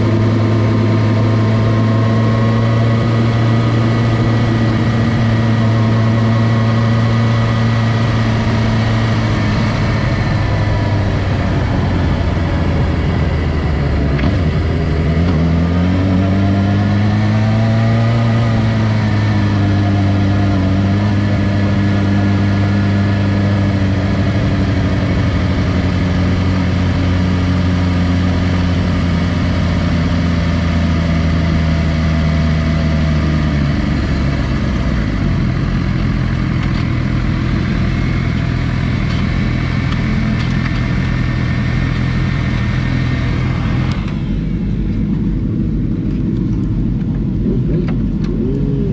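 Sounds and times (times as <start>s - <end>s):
motorcycle engine running at low revs: 0.0s - 48.9s.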